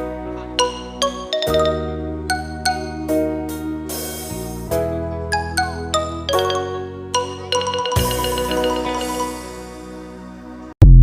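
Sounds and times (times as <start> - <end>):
bass accompaniment: 0.0 - 11.0
mallet-like melody: 0.3 - 10.2.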